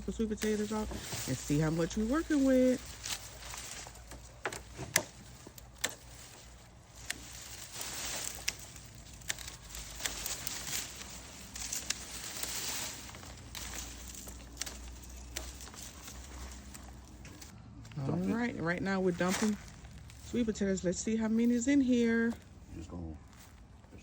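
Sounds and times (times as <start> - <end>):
rustling and crinkling: 0.0 - 24.0.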